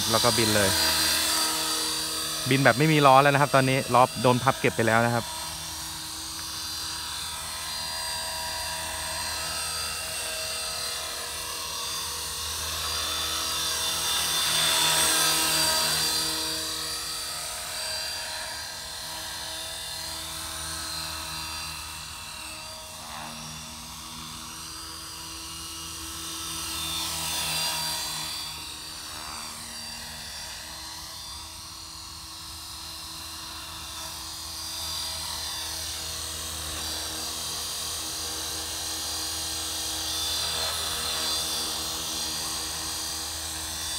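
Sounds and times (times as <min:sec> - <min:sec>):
rc helicopter motor whine: 0:00.0 - 0:43.9.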